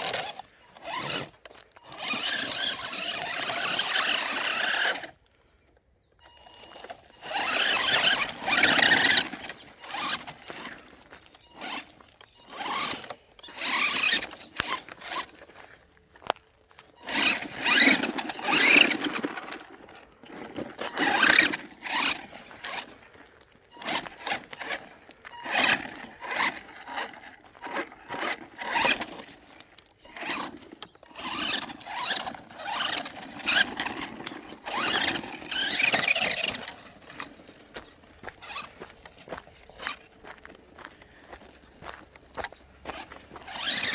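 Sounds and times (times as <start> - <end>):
electric motor whining: 0.0 - 5.2, 6.2 - 15.4, 17.0 - 23.0, 23.6 - 40.0, 42.9 - 43.9
tyres squealing and scrabbling: 0.0 - 5.2, 6.2 - 15.3, 17.0 - 38.8, 42.5 - 43.9.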